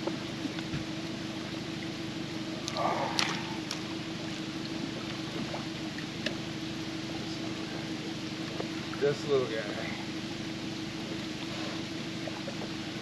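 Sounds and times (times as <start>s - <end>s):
boat motor idling: 0.0s - 13.0s
water noise: 0.0s - 13.0s.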